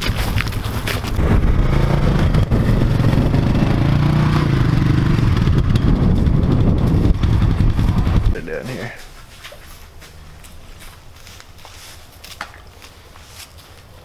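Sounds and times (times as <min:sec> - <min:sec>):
vehicle engine rumbling: 0:00.0 - 0:12.2.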